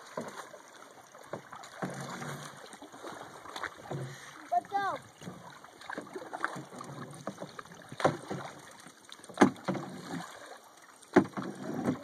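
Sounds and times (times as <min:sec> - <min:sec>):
paddle dips and drips: 0:00.0 - 0:12.0.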